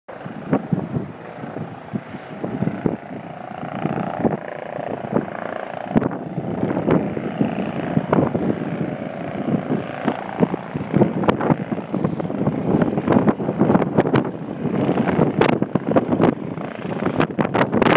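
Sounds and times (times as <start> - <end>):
distant helicopter drone: 0.1 - 17.9
wind gusting on microphone: 0.1 - 17.9.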